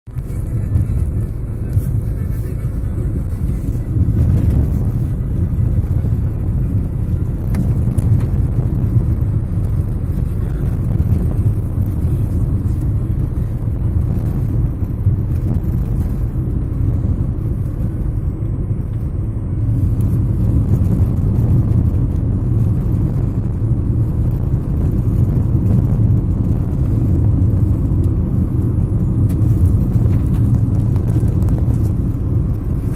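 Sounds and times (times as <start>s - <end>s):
car tyres and engine rumble: 0.0s - 32.9s.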